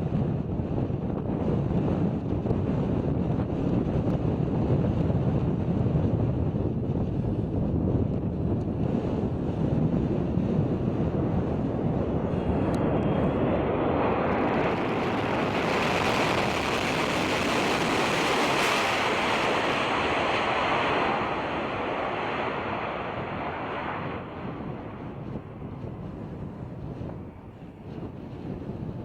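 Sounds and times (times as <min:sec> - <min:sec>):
wind buffeting microphone: 0:00.0 - 0:29.0
jet engines roaring: 0:00.1 - 0:29.0.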